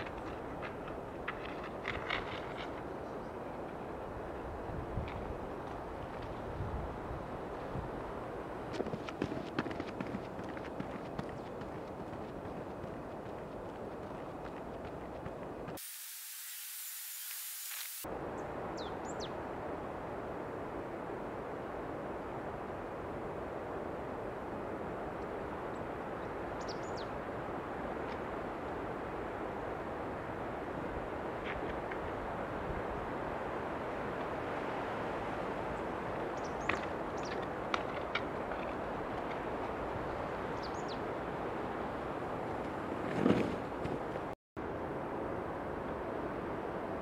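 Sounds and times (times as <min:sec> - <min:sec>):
rushing outdoor hiss: 0:00.0 - 0:37.8
wind noise: 0:00.0 - 0:47.0.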